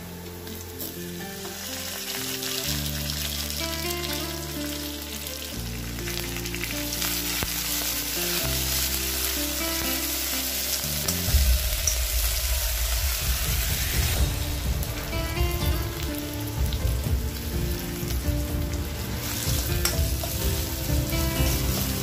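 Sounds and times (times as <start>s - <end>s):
onions sizzling in hot oil: 0.0s - 22.0s
soft background music: 0.0s - 22.0s.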